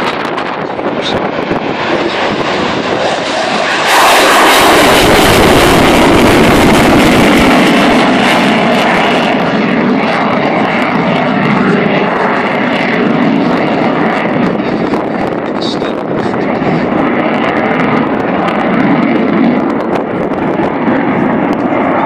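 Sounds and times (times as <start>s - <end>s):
fighter jet engine roar: 0.0s - 22.0s.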